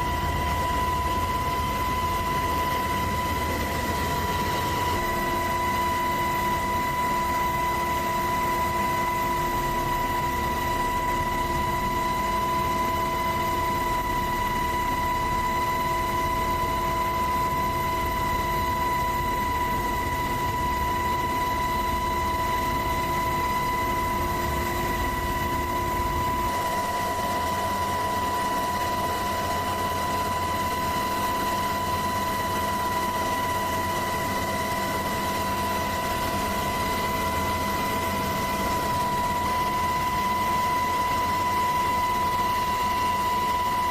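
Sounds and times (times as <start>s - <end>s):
helicopter engine and rotor noise: 0.0s - 43.9s
high steady whine: 0.0s - 43.9s.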